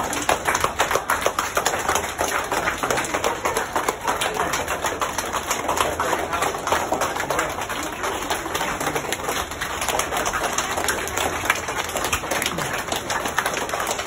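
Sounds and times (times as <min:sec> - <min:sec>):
children applauding: 0:00.0 - 0:14.0.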